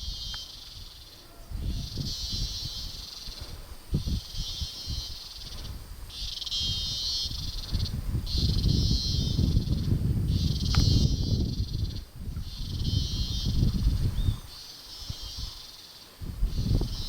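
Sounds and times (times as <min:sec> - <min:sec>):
insects buzzing shrill chorus: 0:00.0 - 0:17.0.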